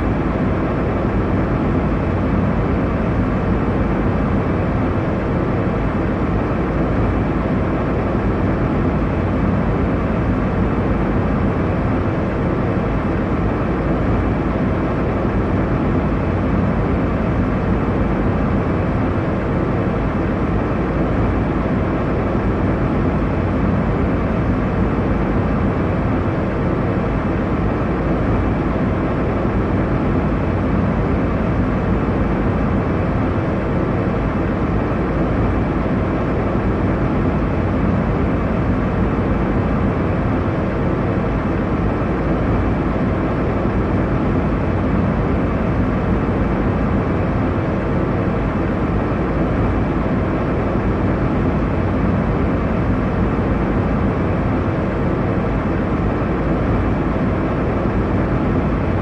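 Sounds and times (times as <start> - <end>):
airliner cabin engine hum: 0.0 - 59.0.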